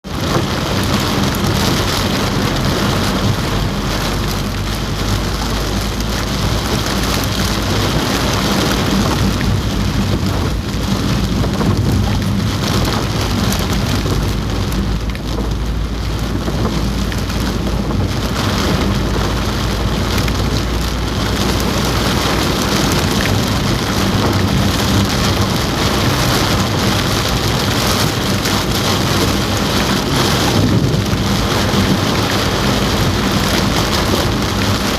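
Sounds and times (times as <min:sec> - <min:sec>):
heavy rain drumming on a car roof: 0:00.0 - 0:34.9
low rumble: 0:00.0 - 0:34.9.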